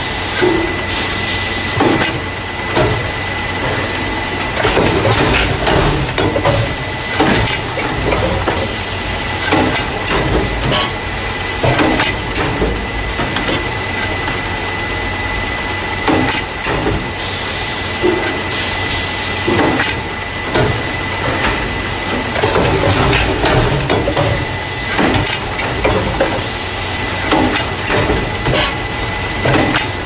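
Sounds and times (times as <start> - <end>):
machine rumble: 0.0 - 30.0
mechanism knocks and clacks: 1.7 - 14.4, 16.0 - 17.2, 19.4 - 30.0.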